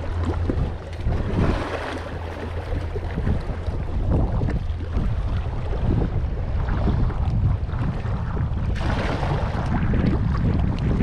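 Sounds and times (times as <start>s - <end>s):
sea water washing against rocks: 0.0s - 11.0s
wind buffeting microphone: 0.0s - 11.0s.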